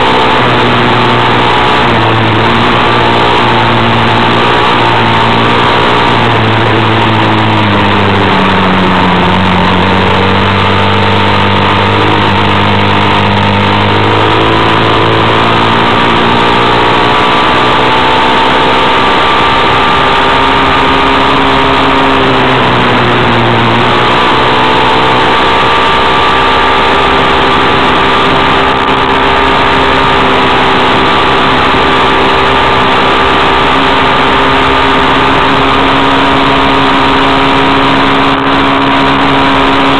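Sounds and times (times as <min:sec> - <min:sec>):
vehicle engine running: 0:00.0 - 0:39.9
wind: 0:00.0 - 0:39.9.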